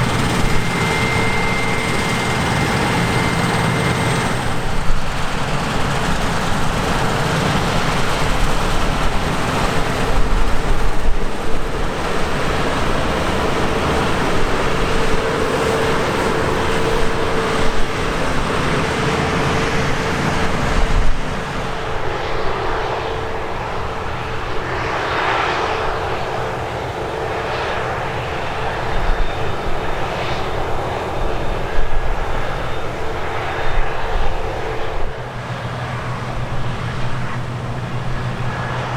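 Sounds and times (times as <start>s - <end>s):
farm machinery engines droning: 0.0s - 24.4s, 25.2s - 38.9s
steady mechanical whine: 0.0s - 38.9s.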